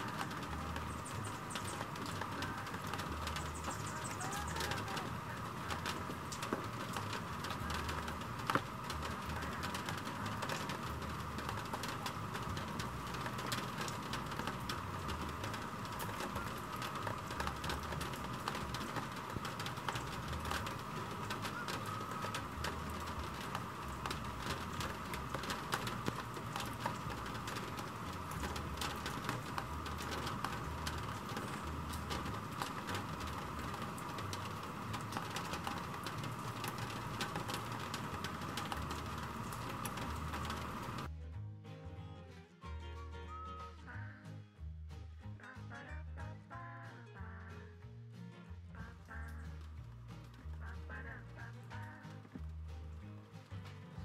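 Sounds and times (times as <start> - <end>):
raindrop ticks: 0.0 - 41.1, 48.7 - 54.0
steady rain: 0.0 - 41.1, 48.5 - 54.0.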